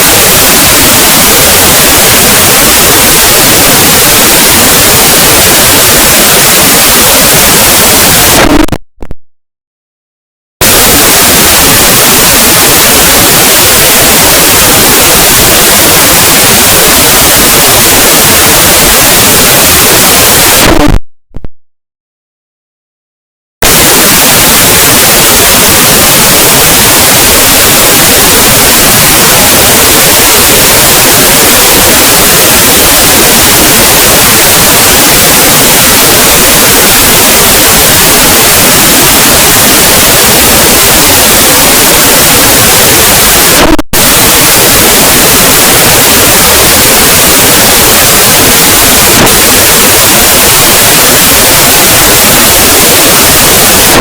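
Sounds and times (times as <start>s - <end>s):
loud distorted static noise: 0.0s - 9.2s, 10.6s - 21.0s, 23.6s - 54.0s.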